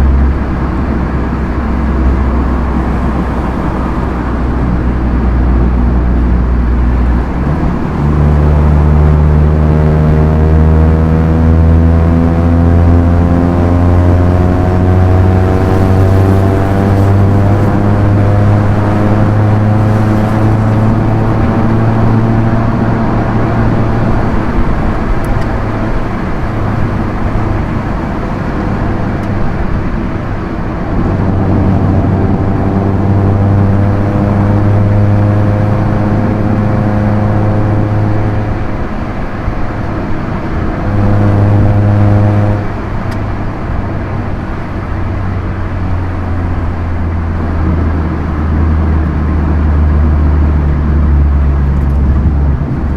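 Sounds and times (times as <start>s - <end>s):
car engine running: 0.0s - 52.9s
tyre and road noise: 0.0s - 52.9s.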